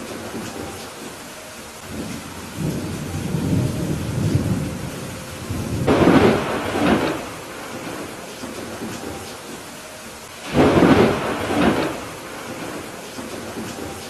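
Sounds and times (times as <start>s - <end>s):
steady rain: 0.0s - 14.0s
rolling thunder: 1.8s - 9.7s, 10.4s - 14.0s.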